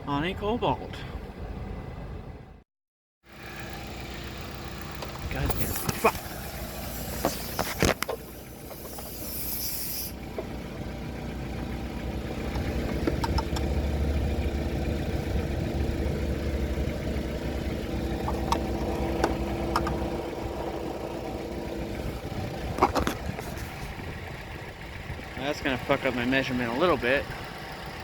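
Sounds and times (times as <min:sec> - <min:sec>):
car engine idling: 0:03.3 - 0:28.0.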